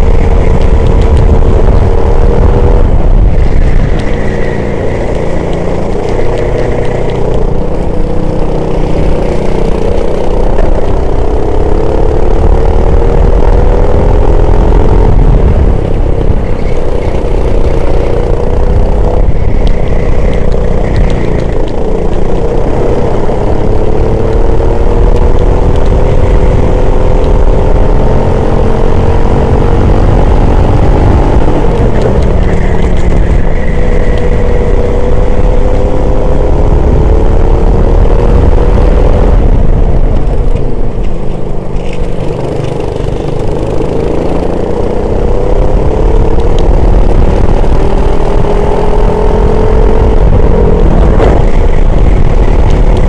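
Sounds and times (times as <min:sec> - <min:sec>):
racing engine running hard: 0:00.0 - 0:53.0
wind and road noise rumble: 0:00.0 - 0:53.0.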